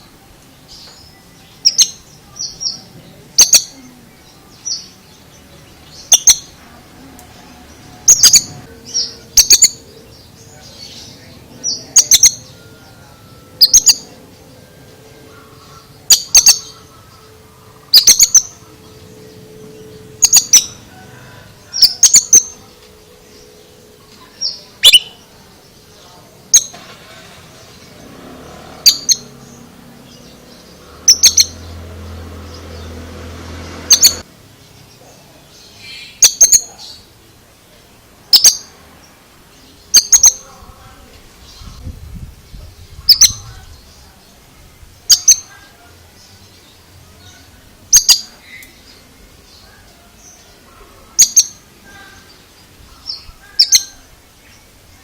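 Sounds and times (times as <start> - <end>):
bird chirping calls: 0.0 - 55.0.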